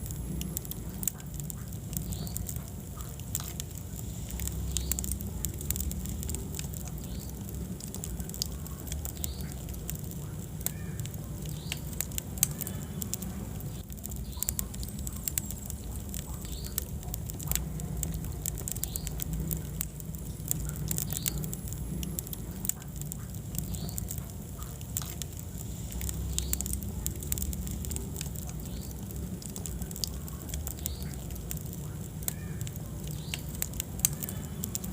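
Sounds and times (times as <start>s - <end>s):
fire crackling and popping: 0.0s - 34.9s
fire low rumble: 0.0s - 34.9s.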